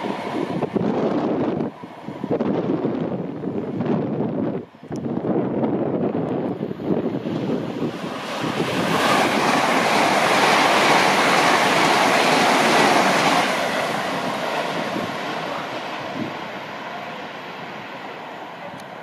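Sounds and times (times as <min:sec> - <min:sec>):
high-speed train passing: 0:00.0 - 0:19.0.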